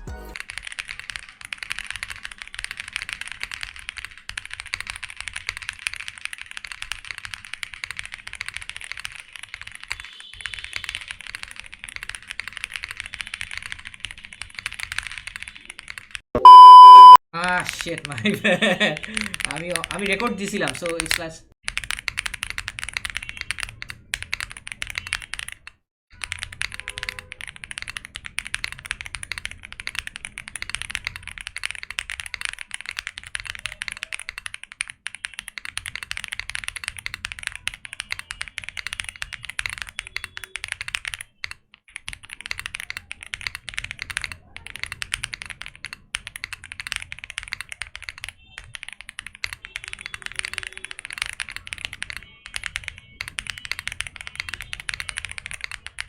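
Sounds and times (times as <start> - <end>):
fast keyboard typing clacks: 0.1 - 56.0.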